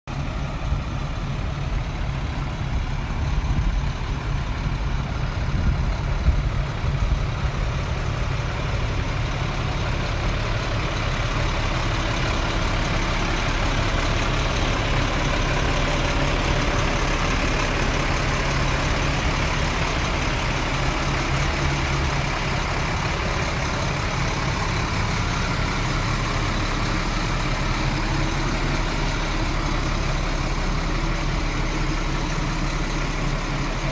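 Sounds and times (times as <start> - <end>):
truck diesel engine idling: 0.0 - 33.9.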